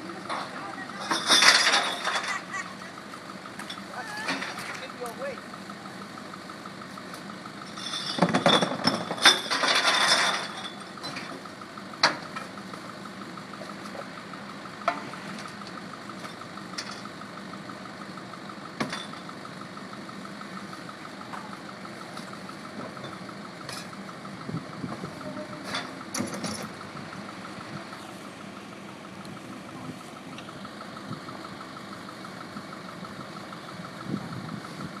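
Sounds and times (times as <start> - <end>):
garbage truck idling: 0.0 - 35.0.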